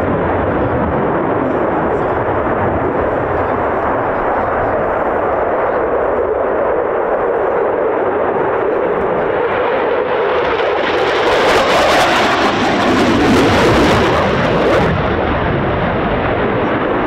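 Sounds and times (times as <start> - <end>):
jet engine rushing noise: 0.0 - 17.0.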